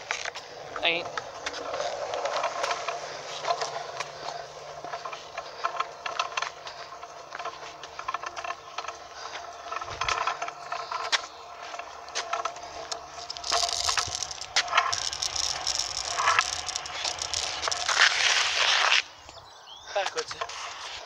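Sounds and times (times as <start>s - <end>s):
small wheels rolling on tarmac: 0.0s - 21.0s.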